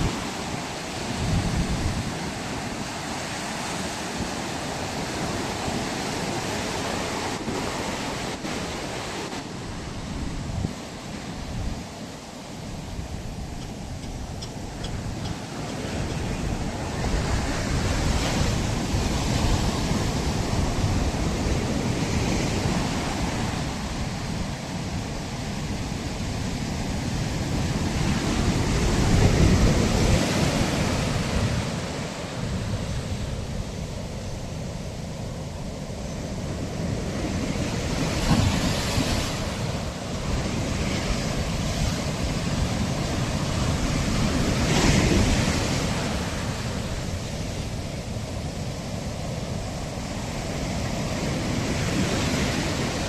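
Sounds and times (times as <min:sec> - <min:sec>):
ocean surf breaking on beach: 0:00.0 - 0:53.0
wind rumbling on microphone: 0:00.0 - 0:53.0.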